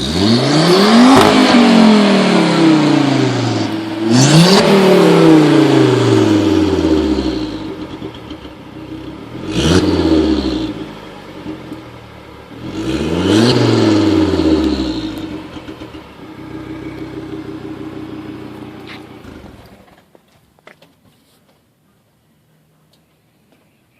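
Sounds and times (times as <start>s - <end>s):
car engine revving and idling: 0.0s - 19.9s.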